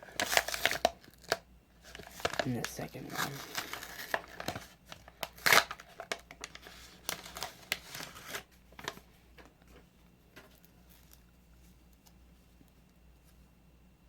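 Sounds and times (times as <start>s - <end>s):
wrapping rustling and crinkling: 0.0s - 13.4s.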